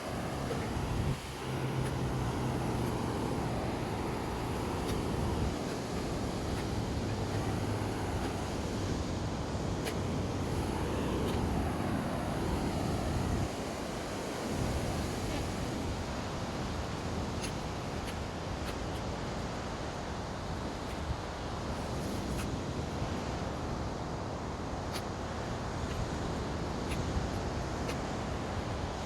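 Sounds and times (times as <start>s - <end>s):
wind buffeting microphone: 0.0s - 23.9s
surf washing: 0.0s - 29.0s.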